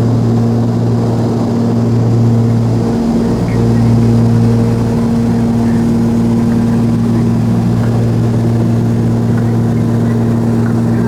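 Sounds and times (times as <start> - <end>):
aircraft propeller engines droning: 0.0 - 11.0.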